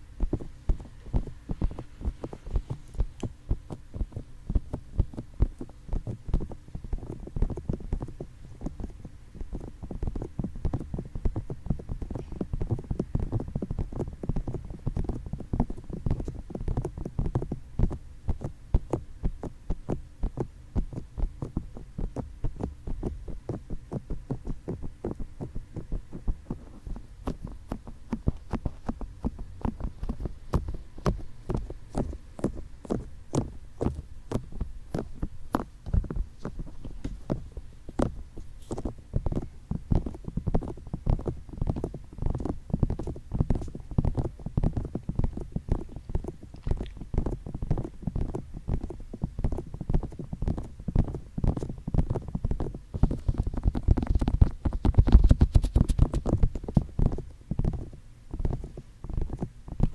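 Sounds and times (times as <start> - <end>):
fingertips tapping on microphone: 0.0 - 59.9.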